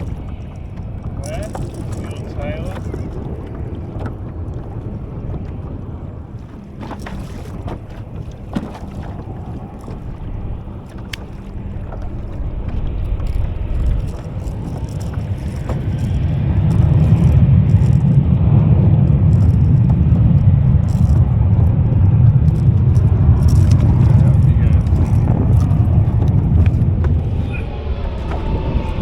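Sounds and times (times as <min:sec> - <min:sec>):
boat engine rumble: 0:00.0 - 0:29.0.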